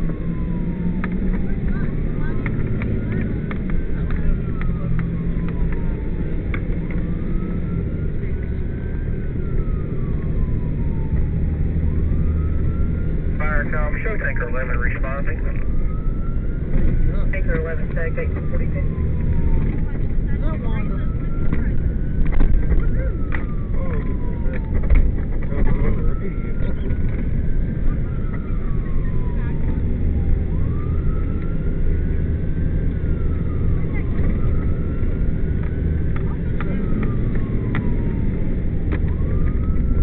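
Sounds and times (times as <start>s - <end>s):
emergency siren wailing: 0.0s - 40.0s
vehicle engine and road drone: 0.0s - 40.0s.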